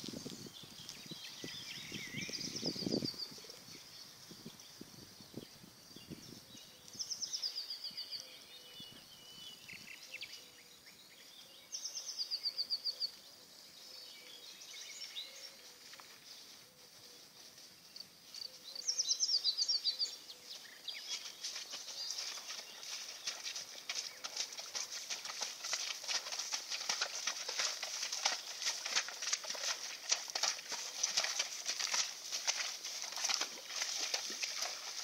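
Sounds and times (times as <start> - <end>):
horses walking through tall grass: 0.0 - 7.7, 14.3 - 35.0
songbird singing: 0.0 - 35.0.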